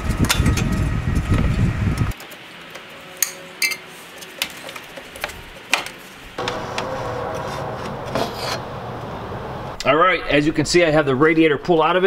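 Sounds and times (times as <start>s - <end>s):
steady background hum: 0.0s - 11.9s.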